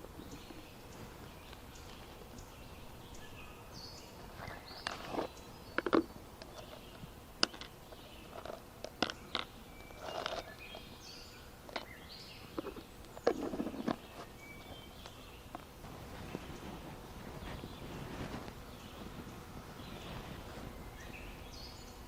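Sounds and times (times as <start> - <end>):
bird chirps: 0.1 - 18.0, 18.6 - 22.0.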